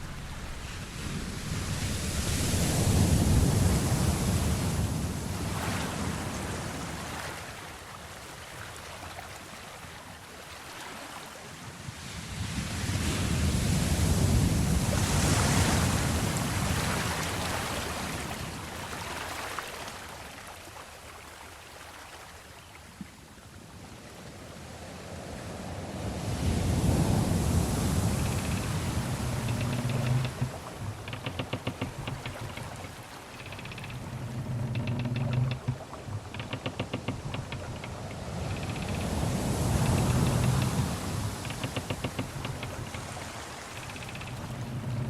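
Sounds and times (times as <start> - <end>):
sea waves surging: 0.0 - 9.8, 12.2 - 20.2, 25.0 - 45.0
wind: 0.0 - 45.0.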